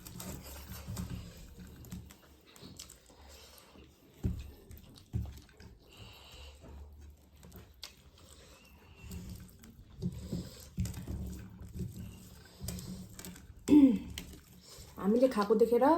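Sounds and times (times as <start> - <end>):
chewing and mouth smacking: 0.0 - 15.0.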